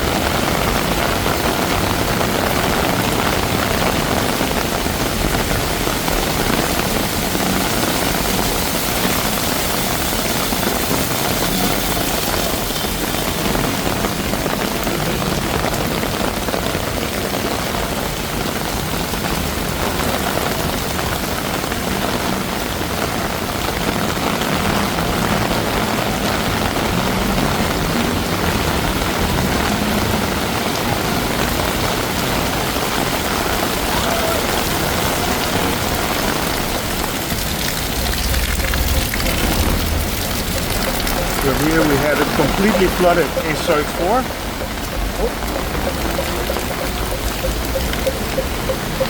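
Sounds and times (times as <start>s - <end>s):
heavy rain pouring on street: 0.0s - 49.0s.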